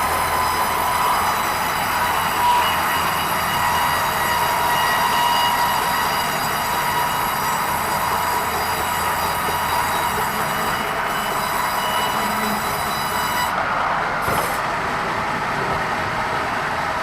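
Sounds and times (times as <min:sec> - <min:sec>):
band saw cutting timber: 0:00.0 - 0:13.6, 0:14.2 - 0:14.6.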